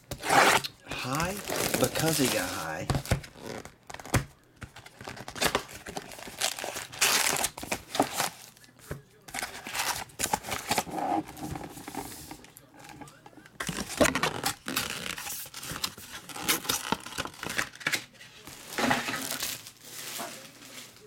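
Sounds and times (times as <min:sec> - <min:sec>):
foil packs crinkling: 0:00.1 - 0:12.4, 0:13.0 - 0:21.0.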